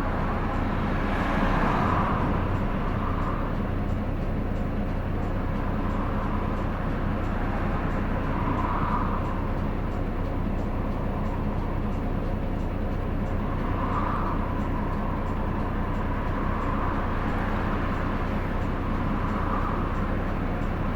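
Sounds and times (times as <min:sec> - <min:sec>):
bus engine hum and road noise: 0:00.0 - 0:20.9
faint regular ticking: 0:00.0 - 0:20.9.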